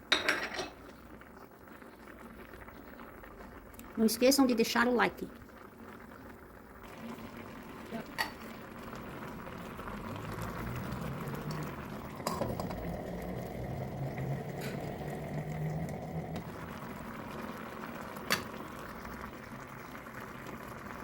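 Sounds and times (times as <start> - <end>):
food bubbling and hissing in pot: 0.0 - 21.0.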